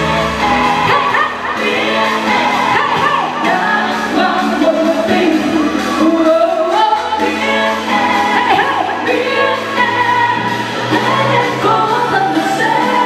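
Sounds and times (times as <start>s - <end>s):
backing band playing: 0.0s - 13.0s
woman singing into microphone: 0.0s - 13.0s.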